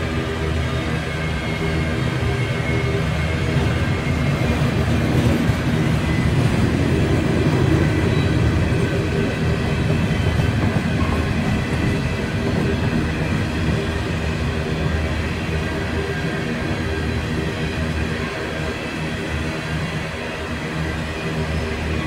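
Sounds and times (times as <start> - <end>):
freight train wheels rolling on rails: 0.0 - 22.0.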